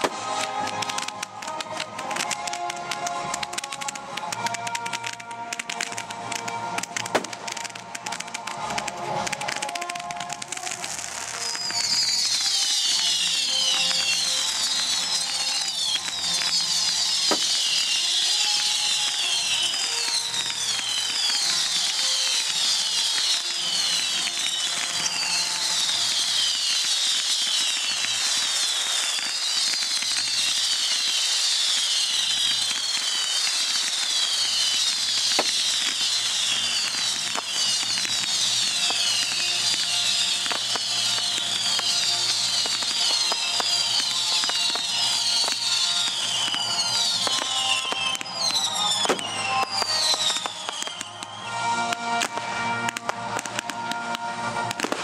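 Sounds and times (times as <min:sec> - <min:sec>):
firework cracks: 0:00.0 - 0:55.0
whistling fireworks: 0:00.0 - 0:55.0.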